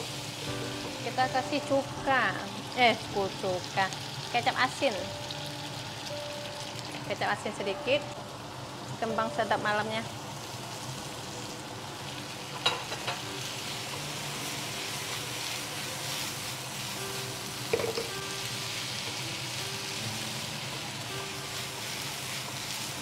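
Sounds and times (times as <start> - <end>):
food sizzling in a wok: 0.0 - 23.0.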